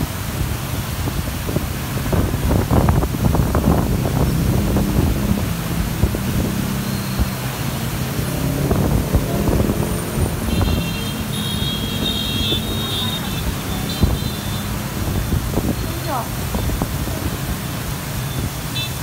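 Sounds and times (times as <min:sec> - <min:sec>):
heavy rain pouring on pavement: 0:00.0 - 0:19.0
motorbike engines humming: 0:00.9 - 0:19.0.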